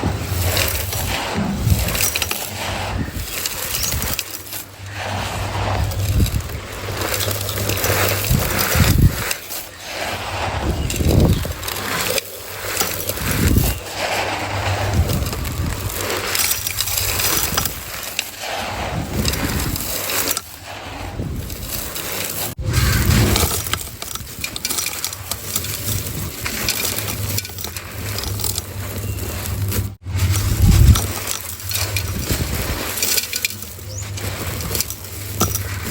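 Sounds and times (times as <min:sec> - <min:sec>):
dry texture pieces crunching: 0:00.0 - 0:35.9.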